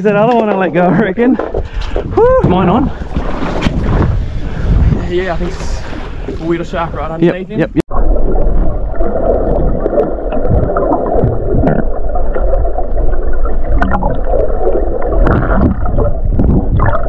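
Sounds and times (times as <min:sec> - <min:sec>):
muffled underwater rushing water: 0:01.4 - 0:17.0.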